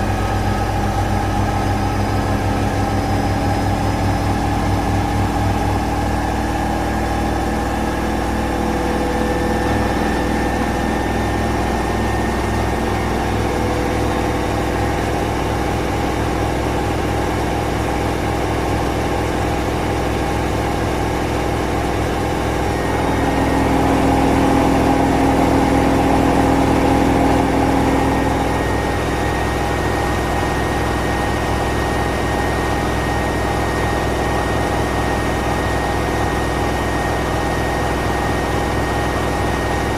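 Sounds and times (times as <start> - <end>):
machine running with low pulse: 0.0 - 39.9.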